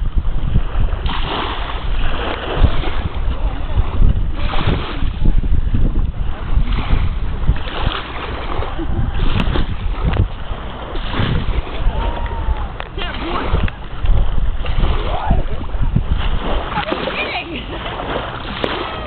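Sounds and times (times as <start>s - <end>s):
rushing sea water: 0.0s - 19.0s
wind buffeting microphone: 0.0s - 19.0s.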